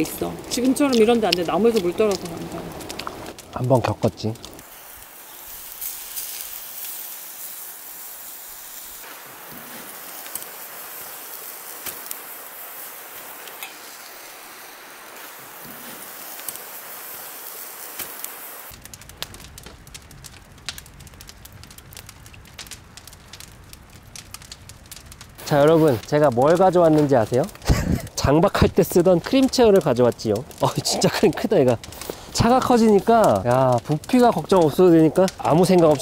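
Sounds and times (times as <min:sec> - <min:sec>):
seafood sizzling on grill: 0:00.0 - 0:36.0
wood fire crackling: 0:00.0 - 0:36.0.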